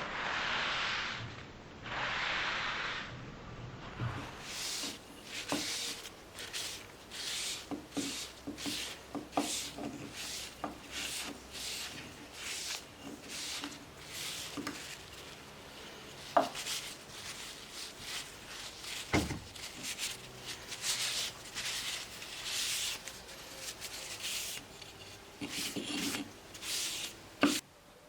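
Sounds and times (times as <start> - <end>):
hand rubbing wood: 4.1 - 27.6.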